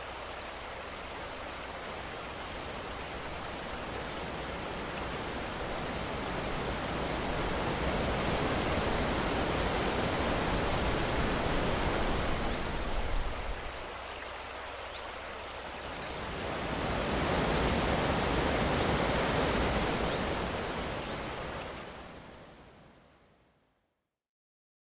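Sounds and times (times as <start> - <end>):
water rushing over a weir: 0.0 - 22.2.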